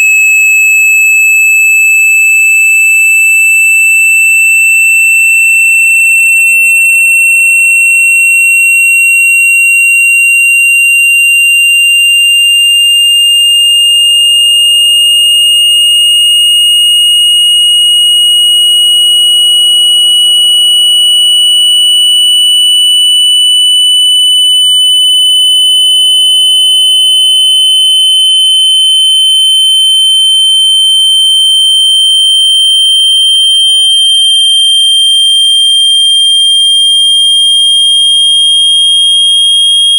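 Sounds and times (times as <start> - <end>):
rising electronic sine tone: 0.0 - 39.9.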